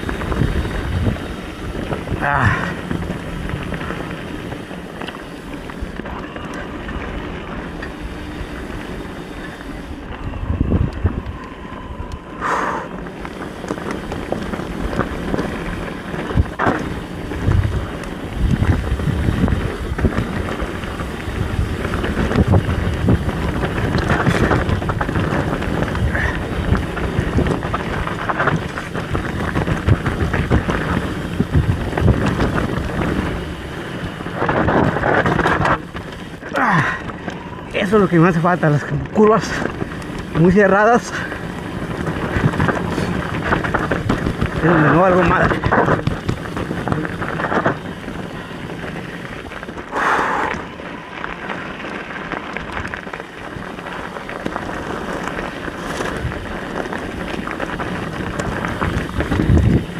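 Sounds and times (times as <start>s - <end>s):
bike knocking and rattling: 0.0s - 59.9s
tyres rolling over rough ground: 0.0s - 59.9s
wind rushing over microphone: 0.0s - 59.9s.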